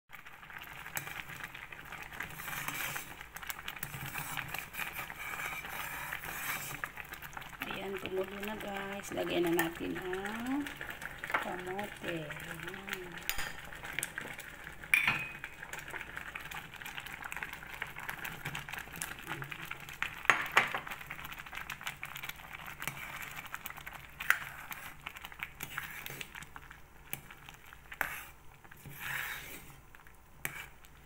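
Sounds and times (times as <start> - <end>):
water boiling: 0.1 - 31.0.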